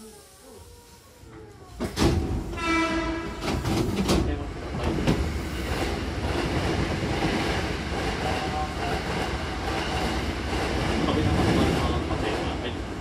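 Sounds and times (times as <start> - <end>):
train car and station hum: 0.0 - 13.0.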